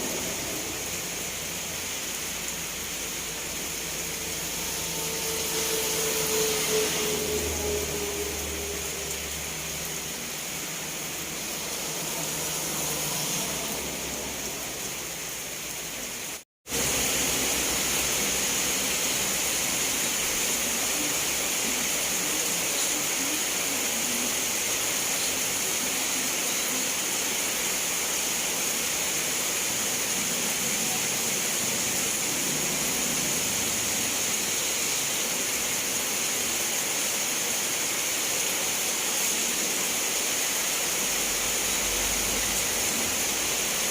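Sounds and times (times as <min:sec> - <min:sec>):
steady rain hiss: 0:00.0 - 0:43.9.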